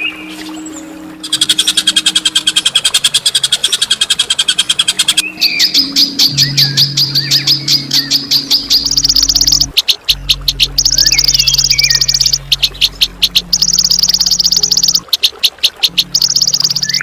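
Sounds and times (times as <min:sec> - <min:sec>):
steady low hum: 0:00.0 - 0:17.0
songbird chattering: 0:01.2 - 0:17.0.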